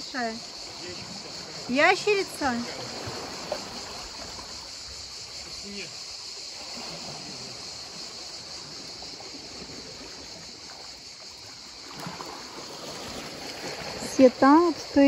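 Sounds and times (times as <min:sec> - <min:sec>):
insects buzzing: 0:00.0 - 0:15.0
small waves lapping on rocks: 0:00.0 - 0:15.0.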